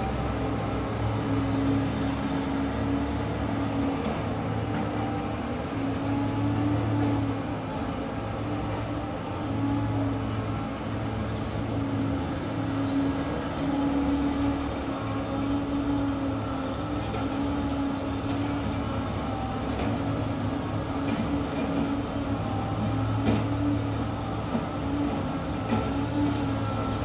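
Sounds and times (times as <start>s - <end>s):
excavator diesel engine drone: 0.0s - 27.0s.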